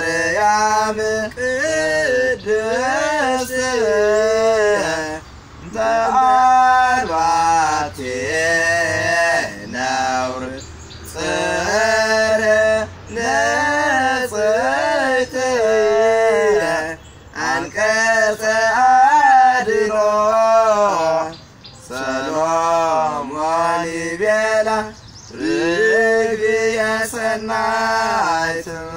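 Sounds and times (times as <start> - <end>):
man singing: 0.0 - 28.9.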